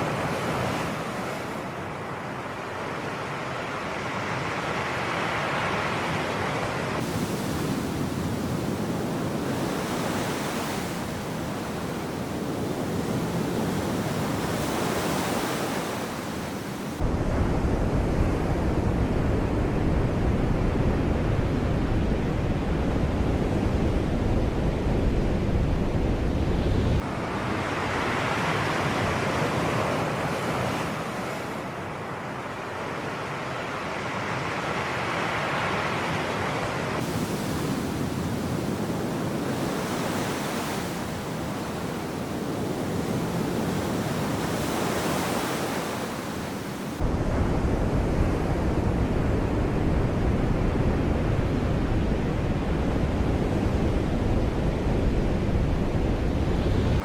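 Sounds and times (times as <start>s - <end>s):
sea waves washing in: 0.0s - 19.6s, 24.1s - 57.0s.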